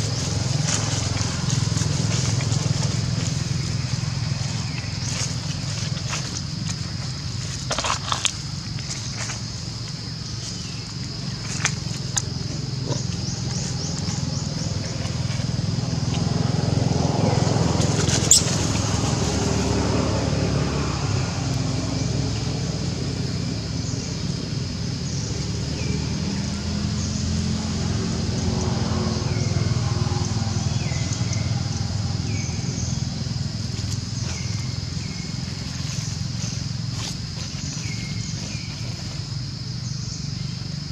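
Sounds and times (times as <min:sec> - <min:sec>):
low rumble of traffic: 0:00.0 - 0:40.9.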